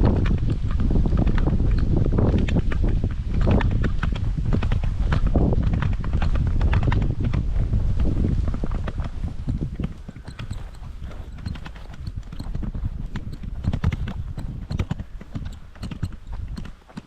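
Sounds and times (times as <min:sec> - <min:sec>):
crunching footsteps on a path: 0:00.0 - 0:17.0
wind rumble on microphone: 0:00.0 - 0:17.0.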